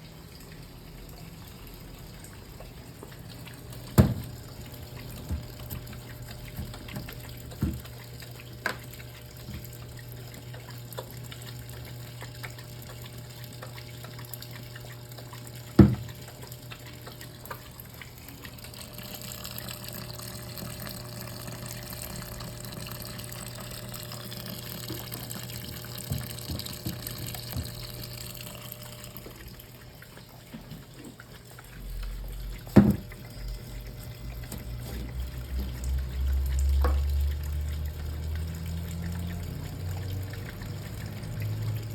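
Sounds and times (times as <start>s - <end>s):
washing machine motor hum: 0.0s - 41.9s
water sloshing in tub: 0.0s - 41.9s.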